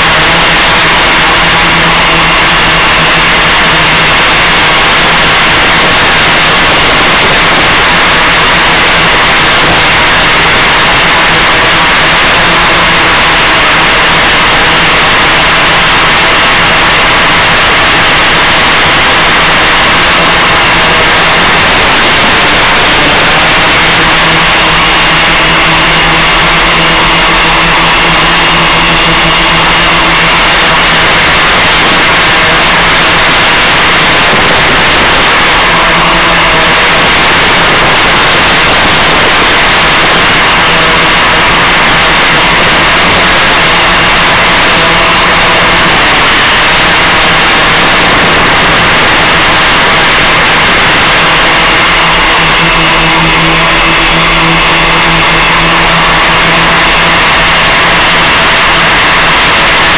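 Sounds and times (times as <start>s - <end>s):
static hiss: 0.0s - 59.9s.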